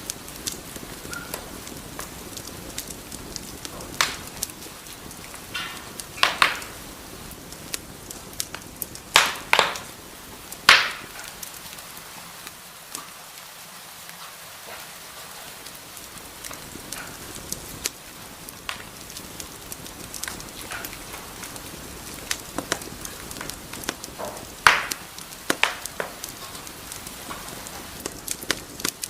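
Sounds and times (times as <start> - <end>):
sharp fire pops: 0.0 - 29.0
wood fire crackling: 0.0 - 29.0.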